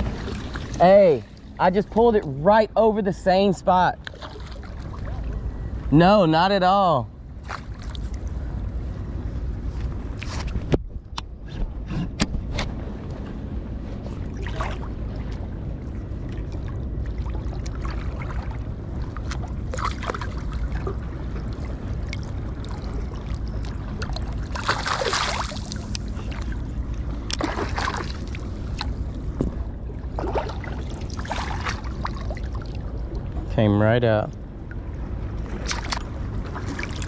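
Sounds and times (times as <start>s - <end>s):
low rumble: 0.0s - 37.0s
water splashing and sloshing: 0.0s - 37.0s.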